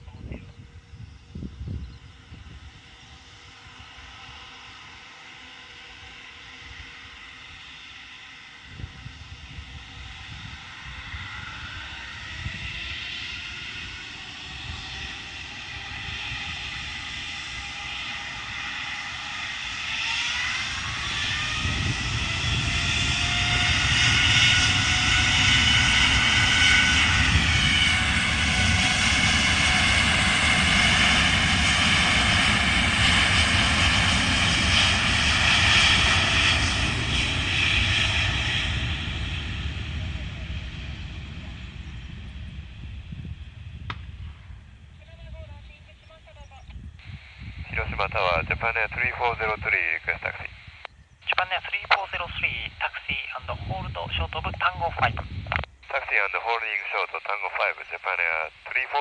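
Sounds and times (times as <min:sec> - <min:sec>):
high engine whine: 0:00.0 - 0:45.5, 0:46.5 - 0:59.0
jet airliner engine roar: 0:00.0 - 0:59.0.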